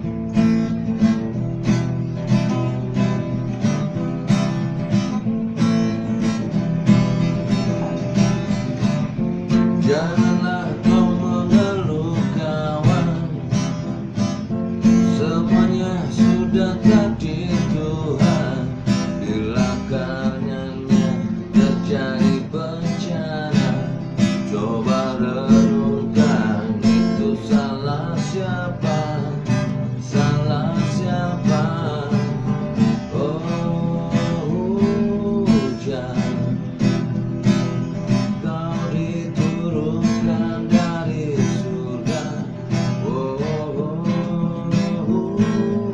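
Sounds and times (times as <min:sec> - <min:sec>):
strummed acoustic guitar: 0:00.0 - 0:45.9.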